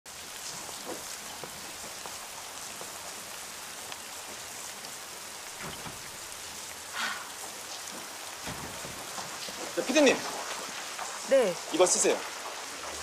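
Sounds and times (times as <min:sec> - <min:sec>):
rain on hard surfaces: 0:00.0 - 0:13.0.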